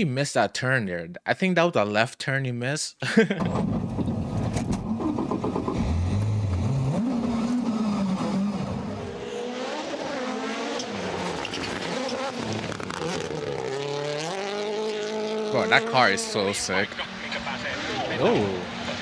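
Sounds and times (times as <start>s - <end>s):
rally car engine revving: 3.4s - 19.0s.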